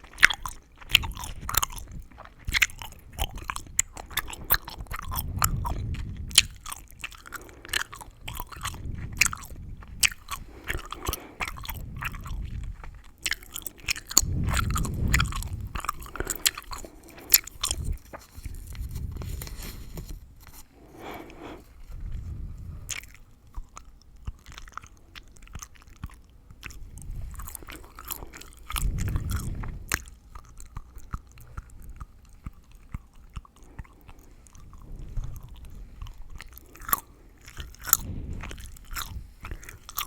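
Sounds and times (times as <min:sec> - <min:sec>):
gum chewing mouth smacks: 0:00.0 - 0:40.0
gum crackling and snapping: 0:00.0 - 0:40.0.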